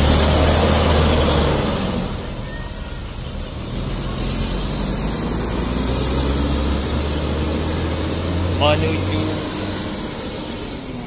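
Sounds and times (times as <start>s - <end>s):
coach diesel engine pulling away: 0.0s - 11.0s.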